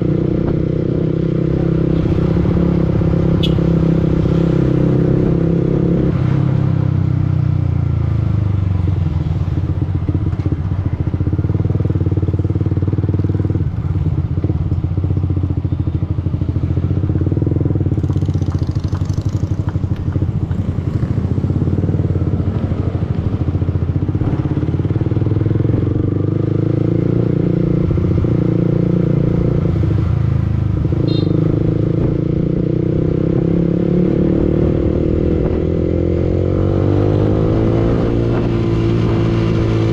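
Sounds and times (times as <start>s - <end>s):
motorcycle engine running: 0.0s - 5.7s, 7.1s - 39.9s.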